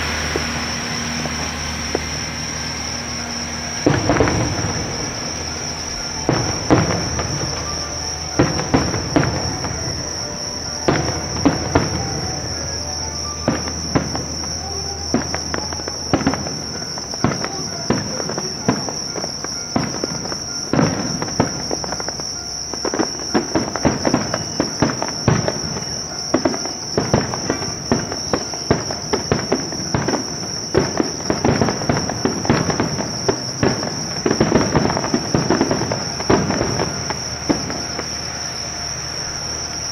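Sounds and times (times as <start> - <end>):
crickets trilling: 0.0 - 39.9
distant fireworks bursting: 0.0 - 39.9.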